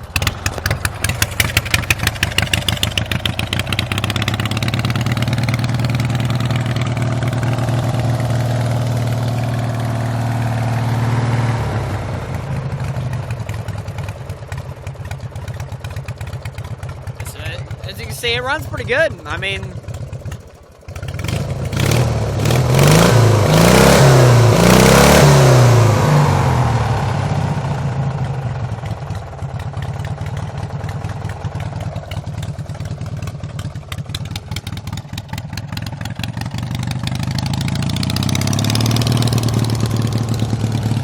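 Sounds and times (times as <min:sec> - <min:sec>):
lawn mower engine revving: 0:00.0 - 0:41.0.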